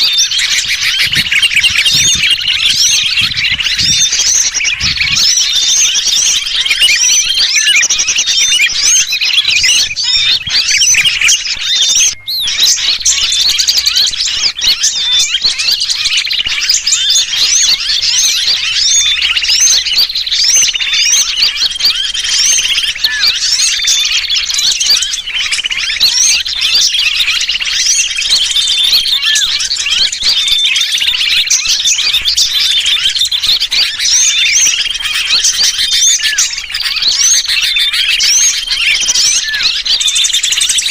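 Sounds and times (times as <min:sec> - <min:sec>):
bird distress calls: 0:00.0 - 0:40.9
small birds chirping: 0:00.0 - 0:40.9.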